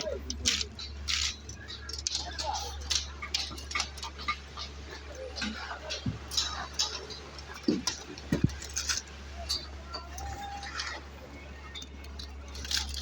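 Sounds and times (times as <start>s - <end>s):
faint workers' voices: 0.0s - 13.0s.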